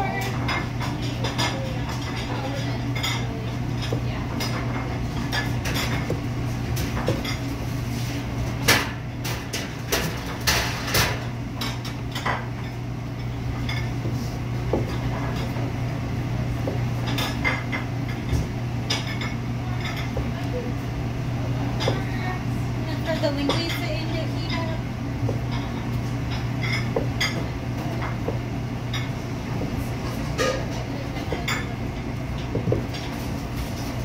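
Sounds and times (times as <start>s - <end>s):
dishes and utensils clinking: 0.0s - 15.8s, 16.6s - 20.8s, 21.6s - 22.3s, 23.0s - 34.0s
steady low hum: 0.0s - 34.0s.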